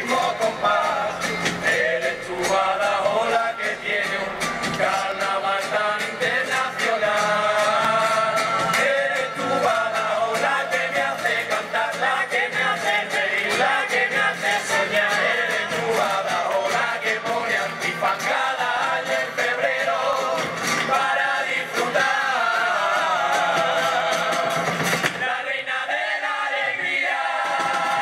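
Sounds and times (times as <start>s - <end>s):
percussion beat: 0.0s - 25.5s, 27.0s - 28.0s
guitar: 0.0s - 28.0s
men singing in harmony: 0.0s - 28.0s.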